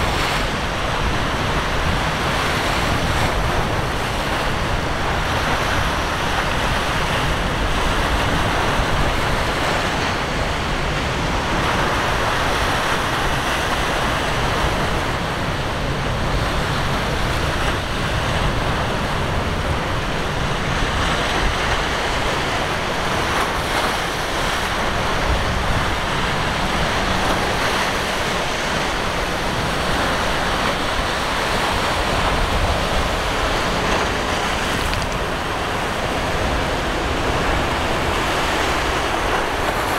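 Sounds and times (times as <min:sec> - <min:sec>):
waves washing and breaking: 0:00.0 - 0:39.9
wind buffeting microphone: 0:00.0 - 0:39.9.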